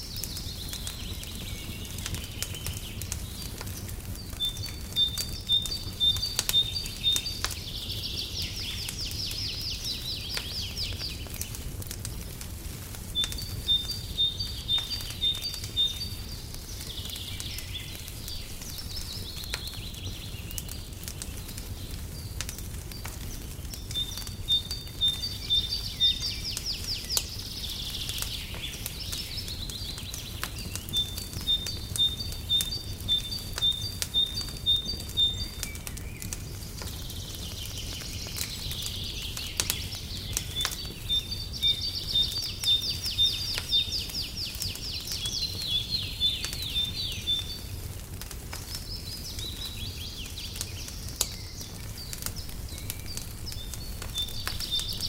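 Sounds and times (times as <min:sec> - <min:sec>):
songbird chirping and trilling: 0:00.0 - 0:12.3, 0:13.1 - 0:47.9, 0:48.6 - 0:55.0
wood fire crackling: 0:00.0 - 0:55.0.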